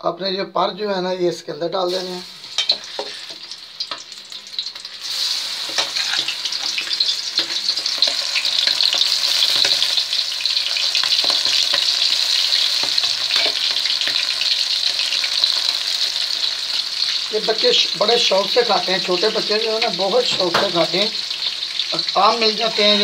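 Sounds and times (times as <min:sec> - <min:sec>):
chicken deep-frying crackle: 0:01.9 - 0:23.0.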